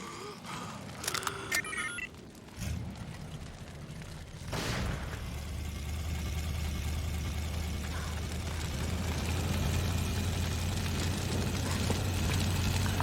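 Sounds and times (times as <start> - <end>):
low engine-like rumble: 2.1 - 13.0.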